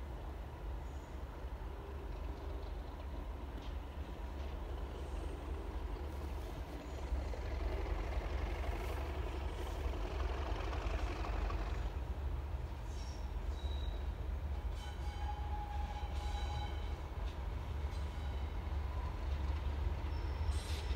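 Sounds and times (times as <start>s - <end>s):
distant train rumble: 0.0s - 20.9s.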